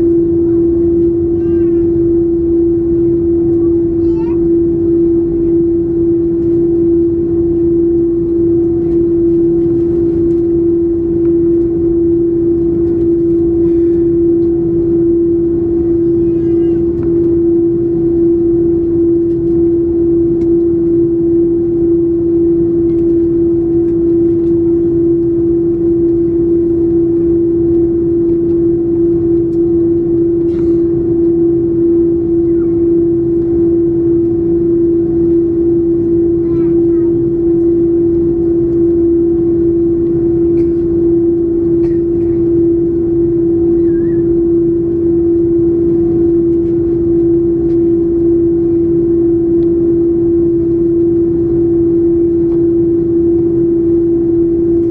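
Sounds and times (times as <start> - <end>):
aircraft cabin engine drone: 0.0 - 54.9.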